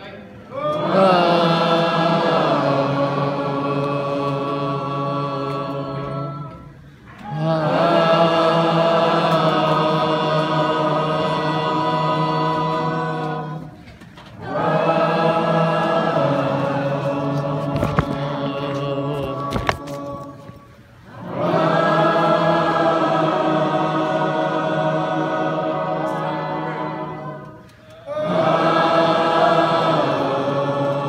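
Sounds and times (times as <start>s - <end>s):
audience singing in unison: 0.6s - 31.0s.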